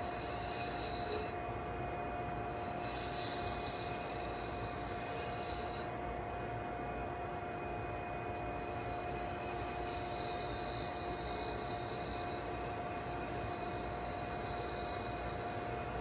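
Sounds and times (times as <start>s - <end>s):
turning tool cutting wood hiss: 0.0s - 1.4s, 2.3s - 6.9s, 8.4s - 16.0s
wood lathe motor: 0.0s - 1.4s, 2.4s - 6.8s, 8.6s - 16.0s.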